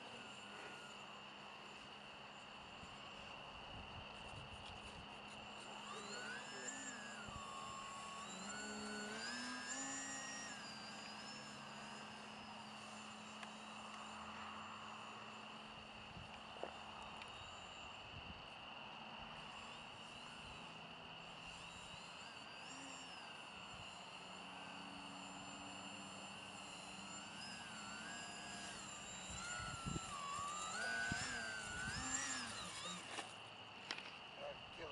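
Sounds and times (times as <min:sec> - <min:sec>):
electric motor and propeller whine: 0:00.0 - 0:34.9.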